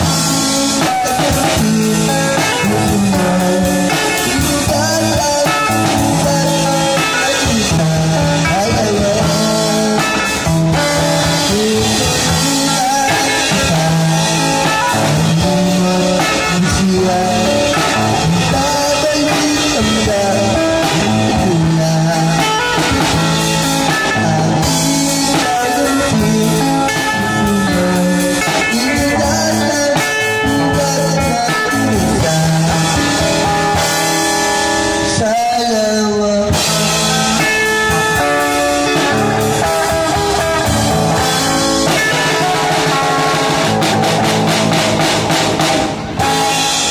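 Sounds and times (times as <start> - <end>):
child playing drum kit: 0.0 - 35.4, 36.4 - 46.9
rock song through speaker: 0.0 - 46.9.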